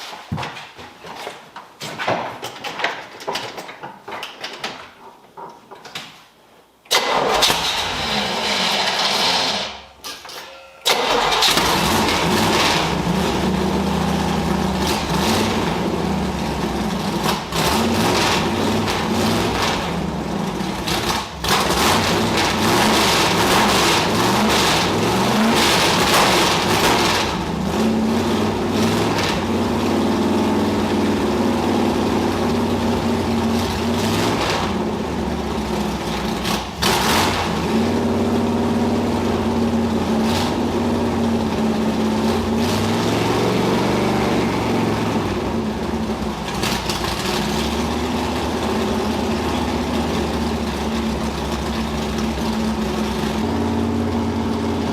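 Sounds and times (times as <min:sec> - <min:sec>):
car engine revving: 0:10.9 - 0:54.9.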